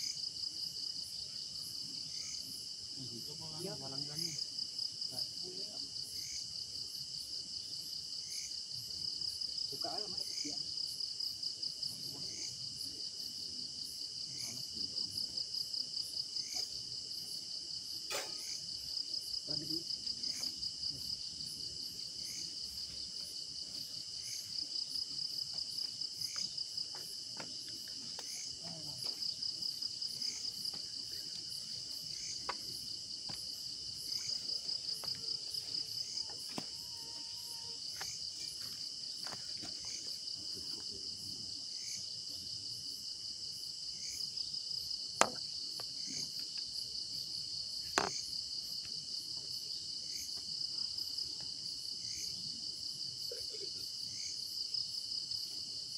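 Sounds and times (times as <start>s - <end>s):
crickets and insects chirping: 0.0s - 55.9s.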